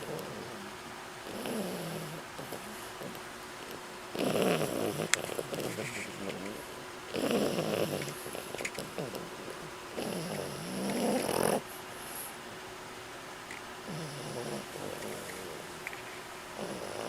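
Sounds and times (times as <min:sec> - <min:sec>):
pet sleep breathing: 0:00.0 - 0:12.4, 0:13.8 - 0:17.0.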